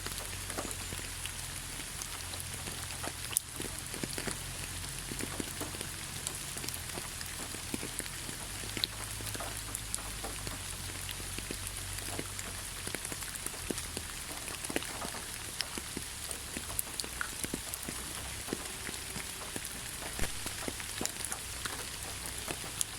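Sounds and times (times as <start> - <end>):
low constant rumble: 0.0 - 22.9
raindrops ticking on leaves: 0.0 - 22.9
steady rain hiss: 0.0 - 22.9.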